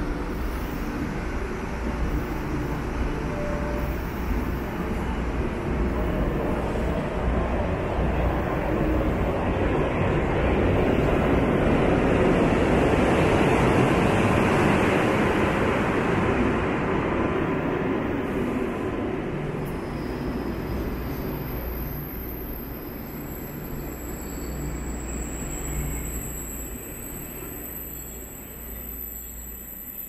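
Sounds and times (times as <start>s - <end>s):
train rumbling on tracks: 0.0s - 30.0s.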